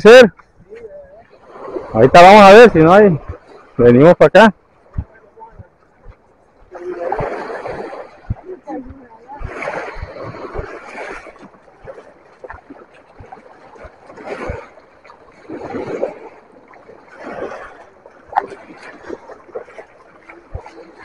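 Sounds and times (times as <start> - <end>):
water washing and splashing: 0.0 - 21.0.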